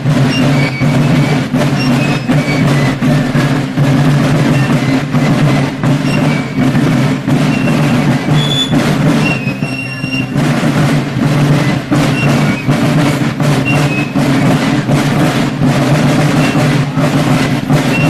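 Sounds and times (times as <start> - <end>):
drums beating march rhythm: 0.0 - 18.0
marching band music: 0.0 - 18.0.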